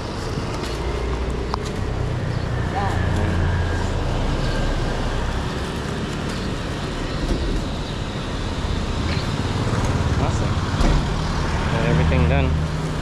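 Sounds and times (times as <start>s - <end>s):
low traffic rumble: 0.0s - 13.0s
passing vehicles: 0.0s - 13.0s.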